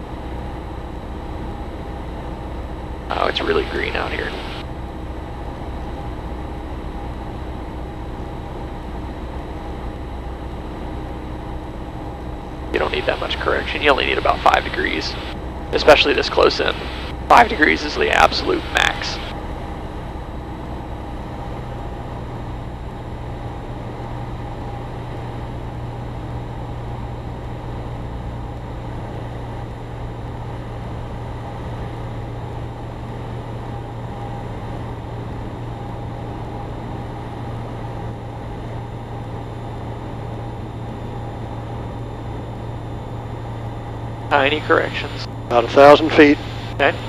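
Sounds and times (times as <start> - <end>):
propeller plane engine droning: 0.0 - 47.0.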